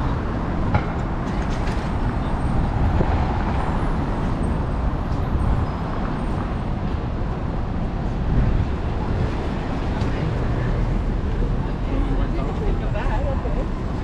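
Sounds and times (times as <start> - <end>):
traffic rumble on busy street: 0.0 - 14.0.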